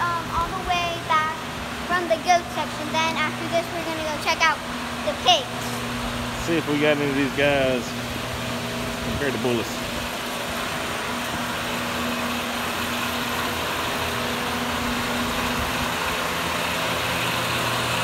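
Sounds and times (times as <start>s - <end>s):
electric fans whirring: 0.0s - 18.0s.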